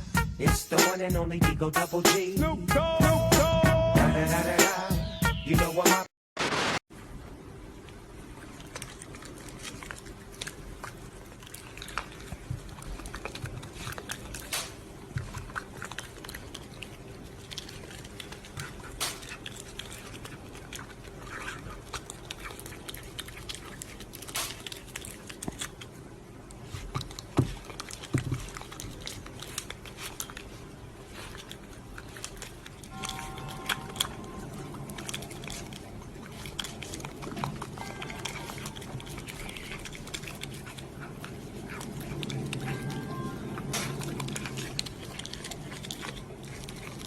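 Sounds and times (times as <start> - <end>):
pet chewing crunches and clicks: 7.8 - 47.0.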